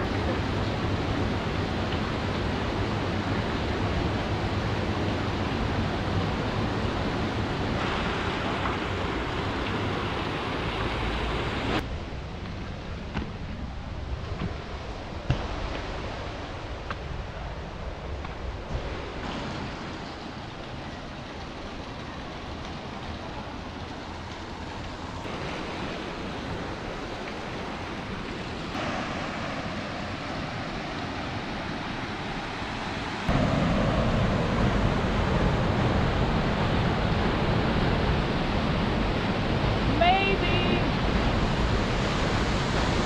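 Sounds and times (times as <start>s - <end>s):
river water rushing through gorge: 0.0s - 11.9s, 13.6s - 43.0s.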